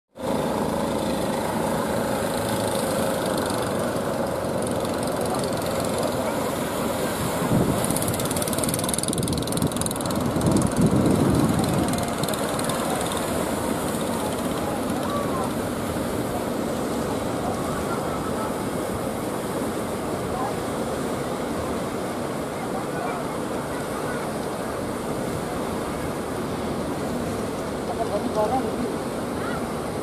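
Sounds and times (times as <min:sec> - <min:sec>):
rush of water: 0:00.1 - 0:30.0
small boat engine running: 0:00.1 - 0:30.0.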